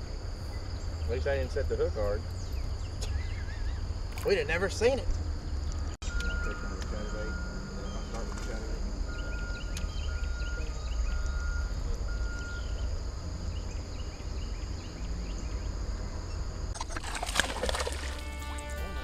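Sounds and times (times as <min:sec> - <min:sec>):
small birds chirping: 0:00.3 - 0:16.7.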